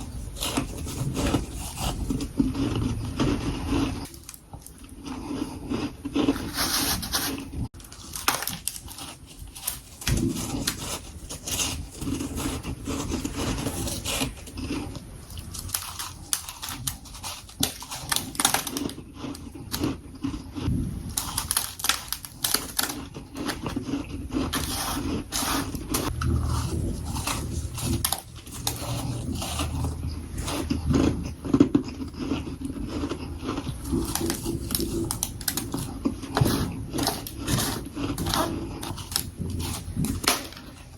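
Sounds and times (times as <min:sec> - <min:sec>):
frost being chewed: 0:00.0 - 0:40.9.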